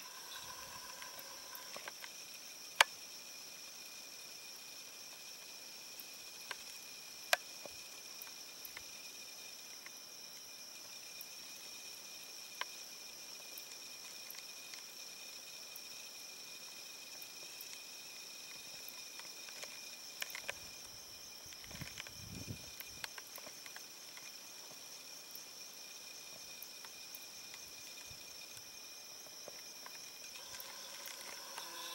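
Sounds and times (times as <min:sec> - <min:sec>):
insect chorus trilling: 0:00.0 - 0:31.9.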